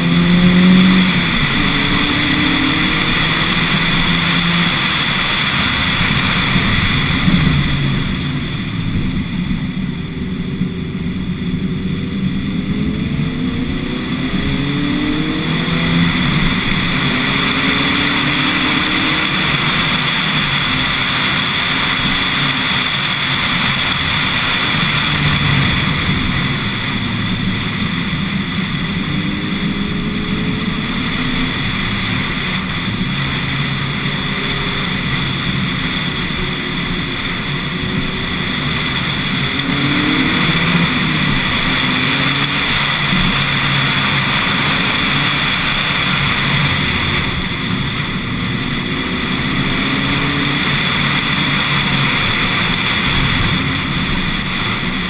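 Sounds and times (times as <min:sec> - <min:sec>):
car engine revving hard: 0:00.0 - 0:55.0
road rush: 0:00.0 - 0:55.0.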